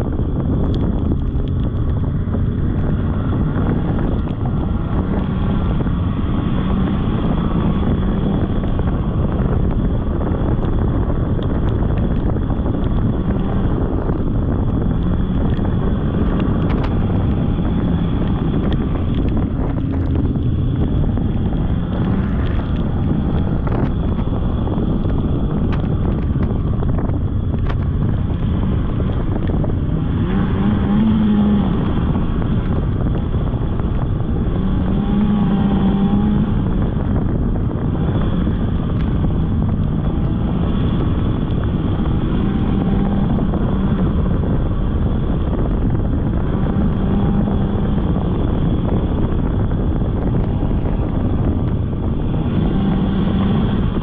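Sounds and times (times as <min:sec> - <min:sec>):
snowmobile engine running: 0:00.0 - 0:54.0
wind buffeting microphone: 0:00.0 - 0:54.0.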